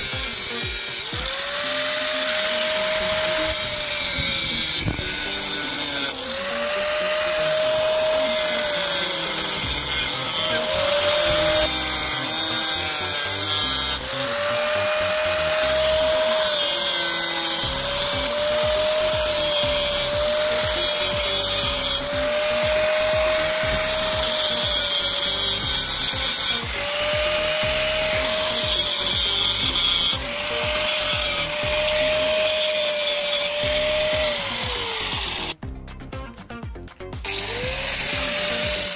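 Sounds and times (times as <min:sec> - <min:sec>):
rotary power tool grinding: 0:00.0 - 0:35.6, 0:37.2 - 0:38.9.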